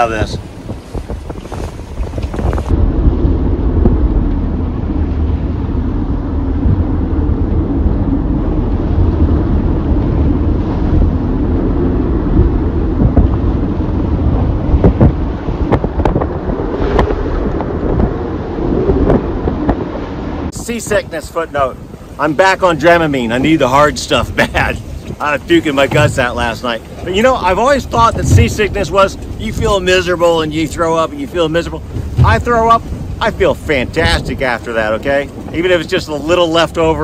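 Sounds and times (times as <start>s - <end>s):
rough sea against hull: 0.0s - 37.0s
wind buffeting microphone: 0.0s - 37.0s.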